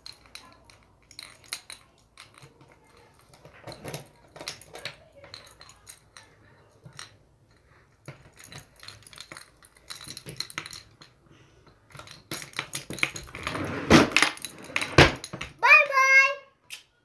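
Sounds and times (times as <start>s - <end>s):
padlock and key clinking: 0.0s - 13.6s, 14.2s - 15.6s.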